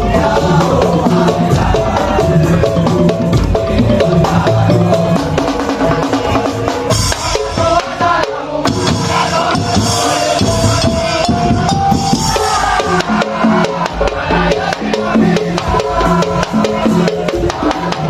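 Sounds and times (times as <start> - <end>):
percussion ensemble playing: 0.0 - 18.0.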